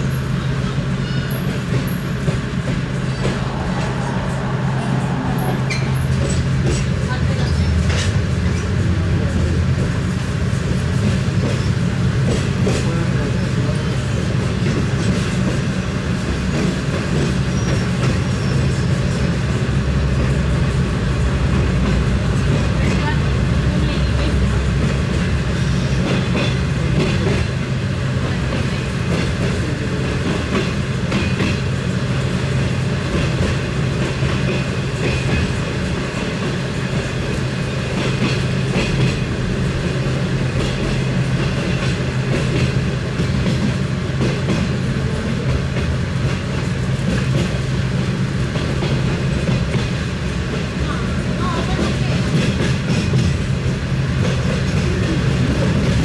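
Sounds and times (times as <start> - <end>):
train rumbling along track: 0.0 - 56.0.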